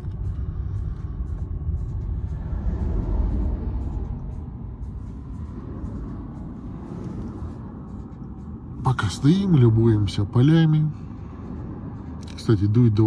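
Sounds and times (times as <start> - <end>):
road traffic rumble: 0.0 - 13.0
wind: 0.0 - 13.0.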